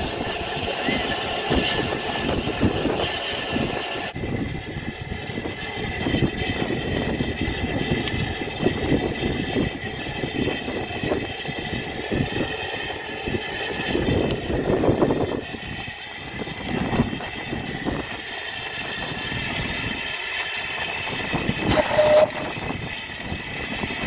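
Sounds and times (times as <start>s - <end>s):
steam locomotive standing: 0.0s - 24.0s
wind rumble on microphone: 0.0s - 24.0s.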